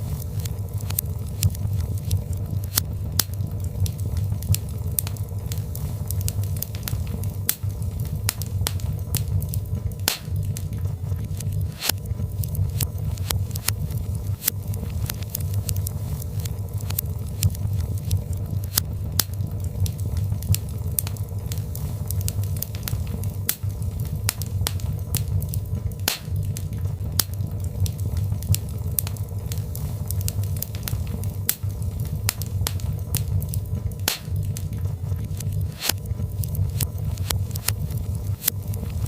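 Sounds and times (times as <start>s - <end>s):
fire crackling and popping: 0.0s - 39.0s
low fire rumble: 0.0s - 39.0s.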